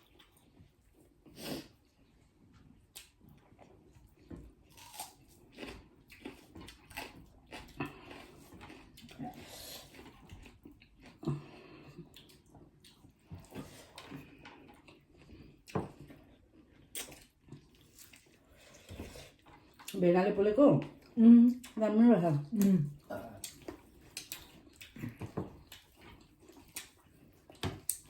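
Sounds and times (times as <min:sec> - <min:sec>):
people chewing food: 0:00.0 - 0:28.0.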